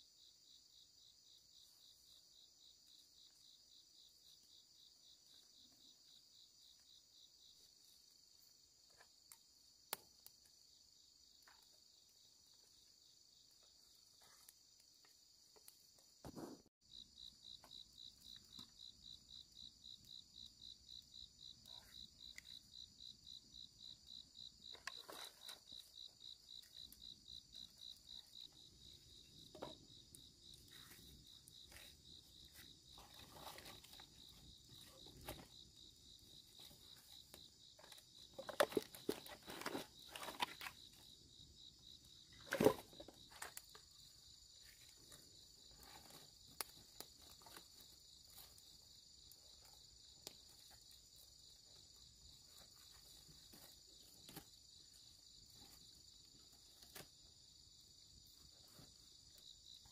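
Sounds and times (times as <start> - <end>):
insects chirping trill: 0.0 - 59.9.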